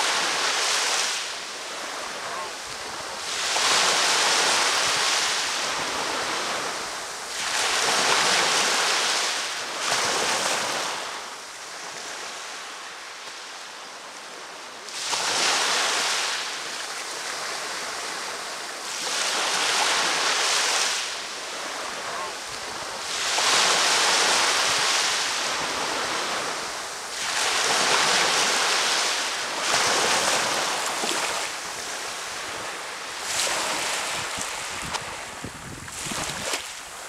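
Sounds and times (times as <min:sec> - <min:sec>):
ocean surf breaking: 0:00.0 - 0:11.3, 0:14.9 - 0:37.0.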